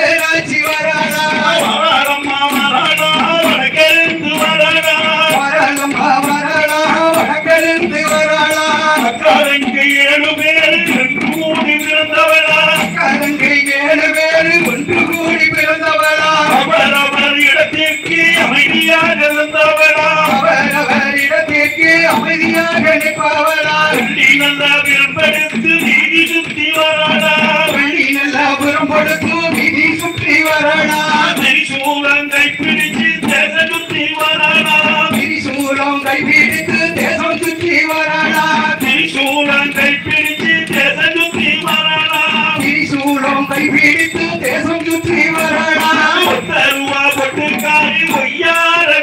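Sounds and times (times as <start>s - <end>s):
folk song singing: 0.0s - 49.0s
rattling beat: 0.0s - 49.0s.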